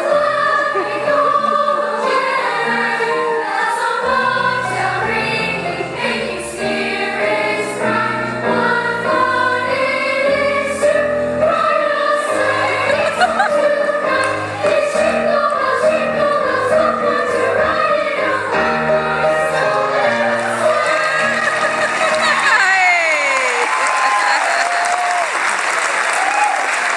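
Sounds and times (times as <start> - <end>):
choir singing in parts: 0.0 - 22.7.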